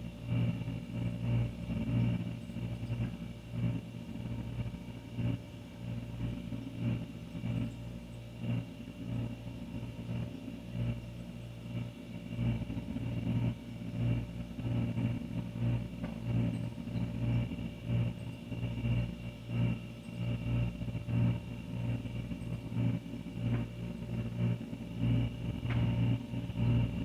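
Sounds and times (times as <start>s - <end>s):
refrigerator compressor hum: 0.0s - 27.0s.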